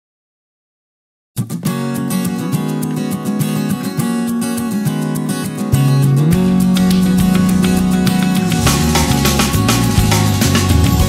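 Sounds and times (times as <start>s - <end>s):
acoustic guitar music: 1.4s - 11.0s.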